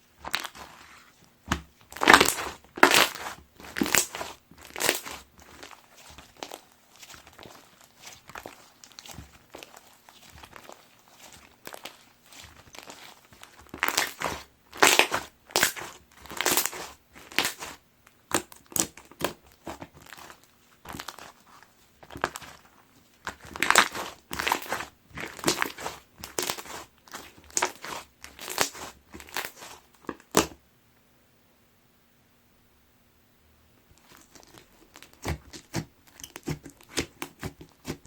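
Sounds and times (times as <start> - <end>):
slime squished by hand: 0.2 - 30.6, 34.0 - 38.0.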